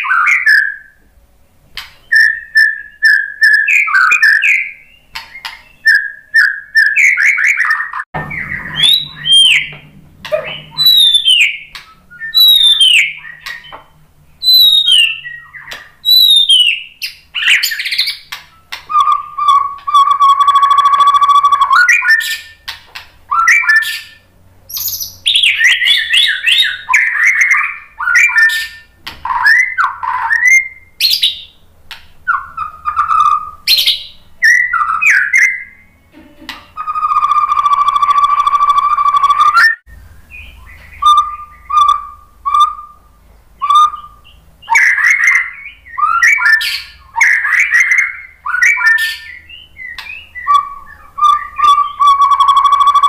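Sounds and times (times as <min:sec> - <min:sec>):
bird singing whistled phrases: 0:00.0 - 0:01.0, 0:02.0 - 0:13.8, 0:14.4 - 0:22.7, 0:23.3 - 0:31.6, 0:32.2 - 0:36.0, 0:36.8 - 0:53.0.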